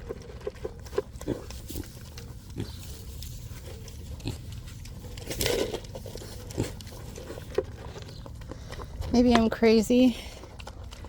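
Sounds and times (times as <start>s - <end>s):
pigs grunting: 0.0s - 9.2s.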